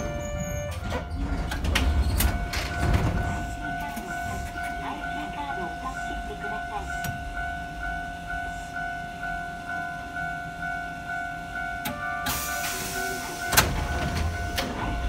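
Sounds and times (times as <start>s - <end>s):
tram bell dinging: 0.0s - 15.0s.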